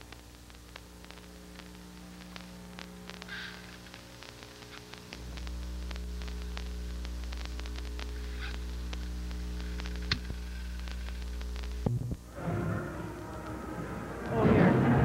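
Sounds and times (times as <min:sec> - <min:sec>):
faint irregular ticks: 0:00.0 - 0:12.2
electrical mains hum: 0:00.0 - 0:15.0
tape static: 0:00.0 - 0:15.0.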